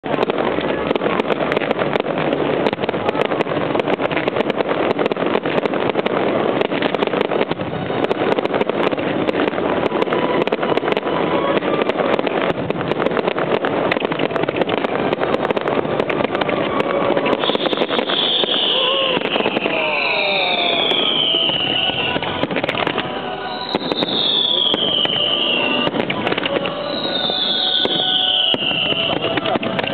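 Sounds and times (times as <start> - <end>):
fireworks bursting and crackling: 0.0 - 29.9
falling firework whistles: 4.2 - 29.9.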